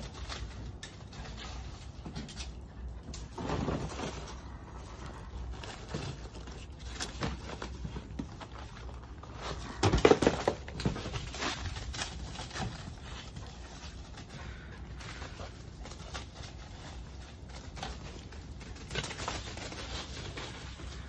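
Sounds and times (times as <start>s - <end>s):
dry leaves and paper bags rustling: 0.0s - 21.0s.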